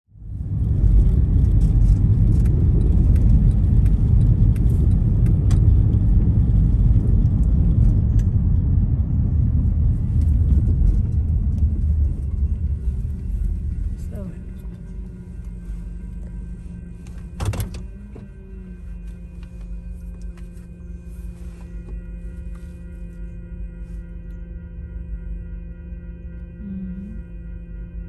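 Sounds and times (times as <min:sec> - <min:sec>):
tyres and engine rumbling: 0:00.1 - 0:23.5.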